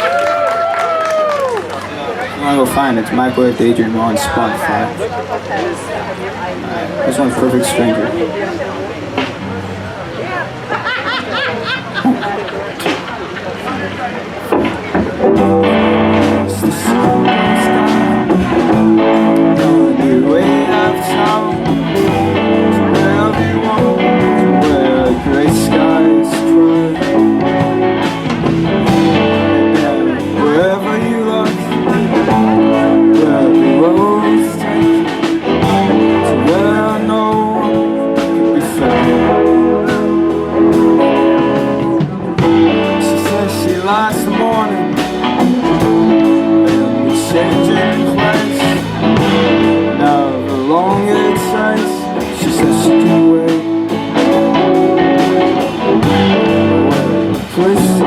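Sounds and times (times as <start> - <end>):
guitar: 0.0 - 58.0
live band playing: 0.0 - 58.0.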